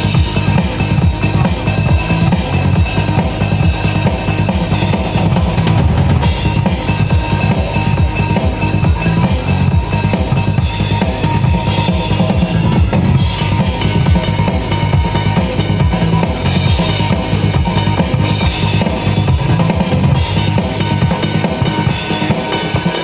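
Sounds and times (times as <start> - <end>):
band music: 0.0 - 23.0
bass drum: 0.0 - 23.0.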